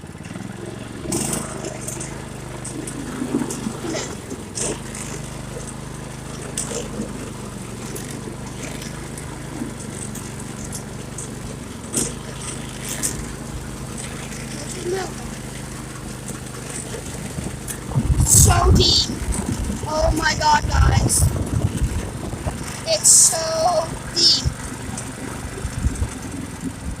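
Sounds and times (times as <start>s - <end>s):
go-kart motor running: 0.0s - 27.0s.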